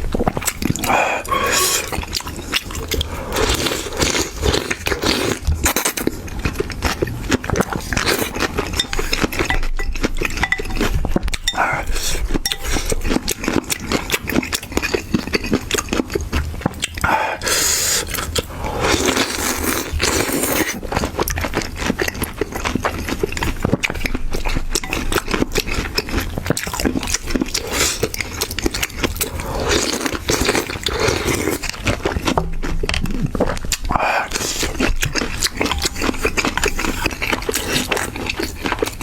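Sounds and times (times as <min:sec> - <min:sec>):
wet chewing and biting: 0:00.0 - 0:39.0.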